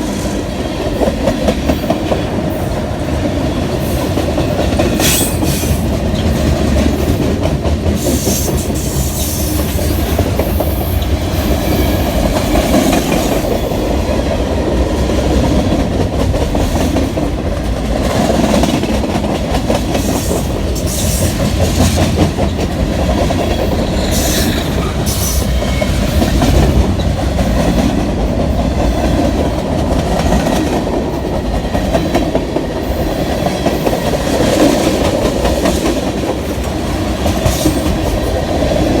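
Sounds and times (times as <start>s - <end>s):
freight train rumbling: 0.0s - 39.0s.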